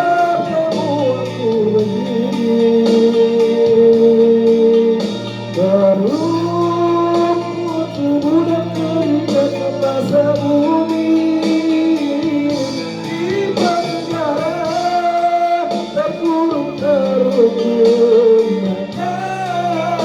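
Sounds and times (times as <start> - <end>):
guitar accompaniment: 0.0 - 20.0
person singing long notes: 0.0 - 20.0.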